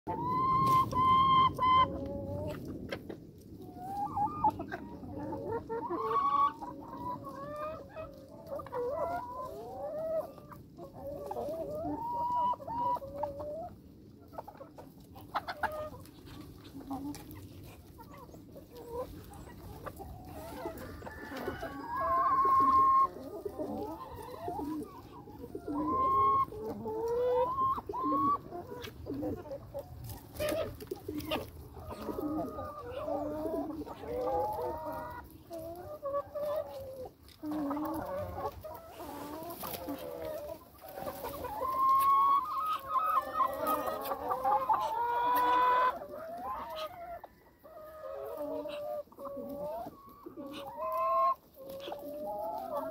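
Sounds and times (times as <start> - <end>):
hens clucking: 0.1 - 52.9.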